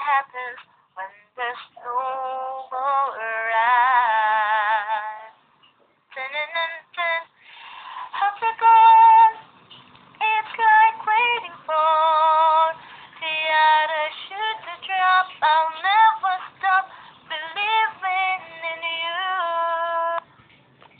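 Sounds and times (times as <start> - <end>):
woman singing unaccompanied: 0.0 - 5.4, 6.1 - 7.4, 8.1 - 9.4, 10.2 - 20.2.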